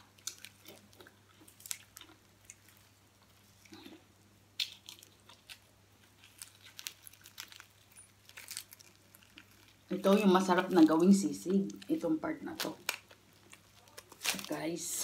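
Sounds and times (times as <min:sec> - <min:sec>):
crispy skin crunching and snapping: 0:00.0 - 0:15.0.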